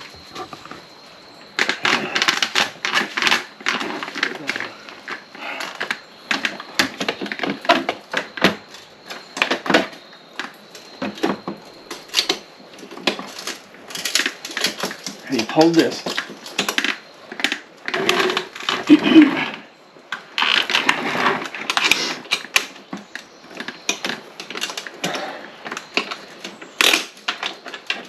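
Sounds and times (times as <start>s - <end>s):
small parts and tools clattering: 0.0s - 28.0s.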